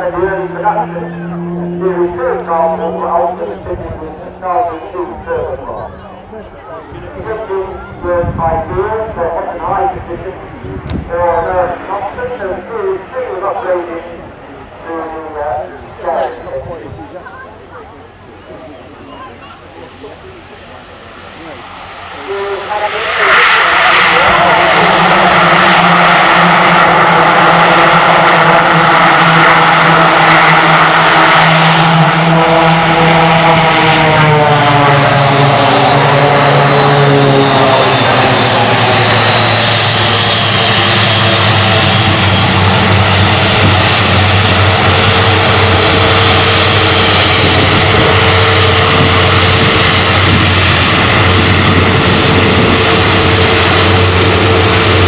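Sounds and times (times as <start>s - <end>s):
turboprop engines whining: 0.0s - 55.0s.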